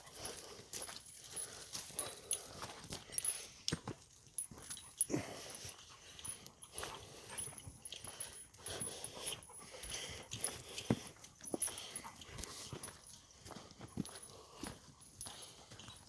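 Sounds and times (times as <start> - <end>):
dog breathing hard and whimpering: 0.0 - 3.7, 4.4 - 16.0
footsteps on woodland path: 0.0 - 16.0.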